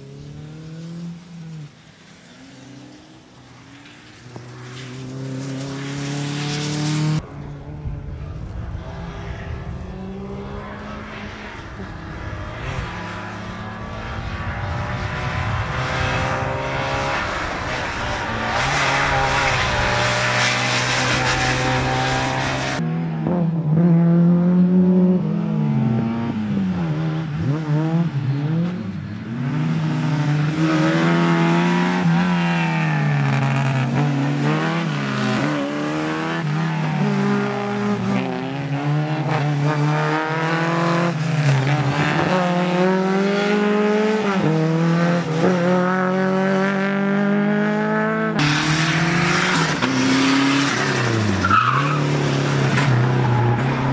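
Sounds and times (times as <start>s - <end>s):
car engine revving: 4.0s - 53.9s.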